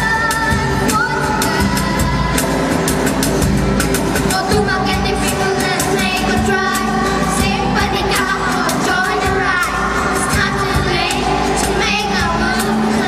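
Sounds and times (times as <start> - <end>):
children singing together: 0.0 - 3.2, 4.2 - 13.0
box-drum beat: 0.0 - 13.0
strummed guitars: 0.0 - 13.0.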